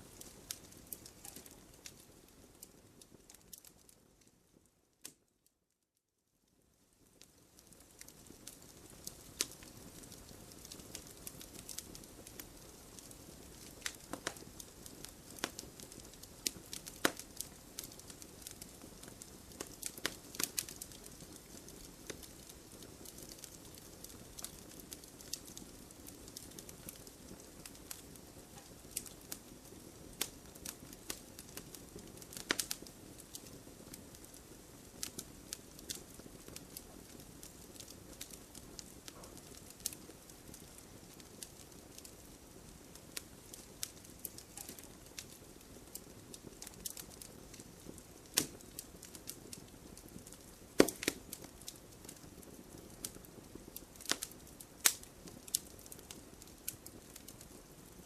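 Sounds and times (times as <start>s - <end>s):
bonfire crackling and popping: 0.0s - 5.3s, 6.5s - 58.0s.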